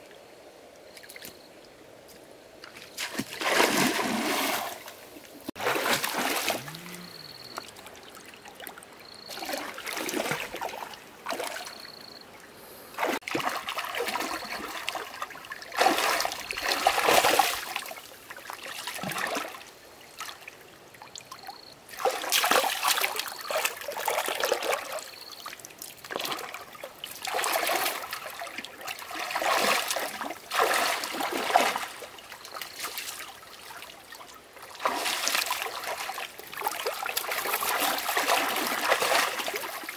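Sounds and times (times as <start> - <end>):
water splashing and trickling: 0.9 - 39.9.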